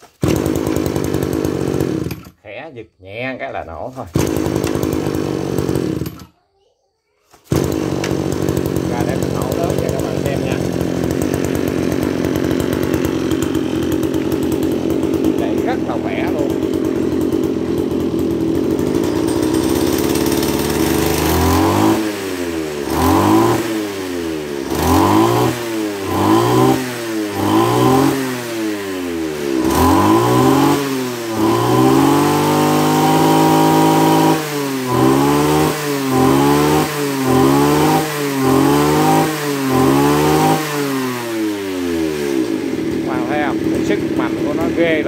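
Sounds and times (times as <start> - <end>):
brush cutter engine revving: 0.0 - 2.5, 3.2 - 6.4, 7.3 - 45.0.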